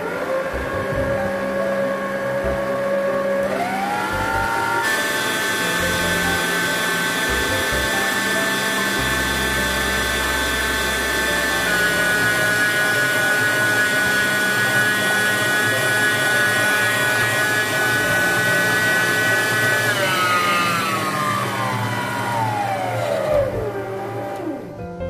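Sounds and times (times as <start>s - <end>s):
stand mixer motor whining: 0.0s - 25.0s.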